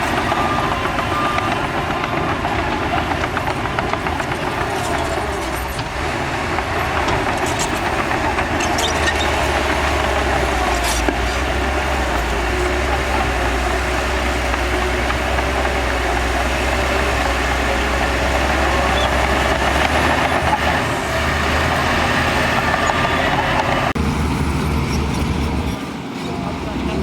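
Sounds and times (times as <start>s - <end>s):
heavy diesel machinery droning: 0.0s - 27.0s.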